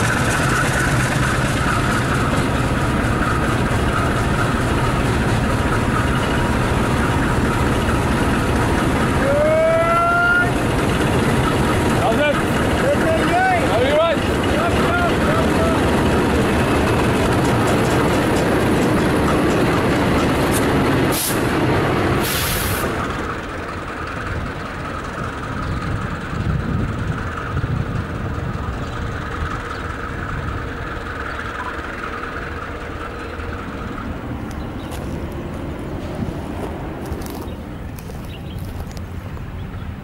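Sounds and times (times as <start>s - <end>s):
locomotive engines and wheels: 0.0s - 40.0s.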